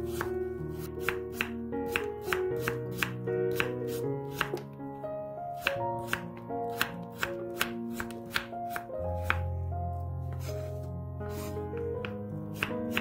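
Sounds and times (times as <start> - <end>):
background music: 0.0 - 13.0
knife slicing on cutting board: 0.1 - 4.6, 5.6 - 9.4, 10.3 - 13.0.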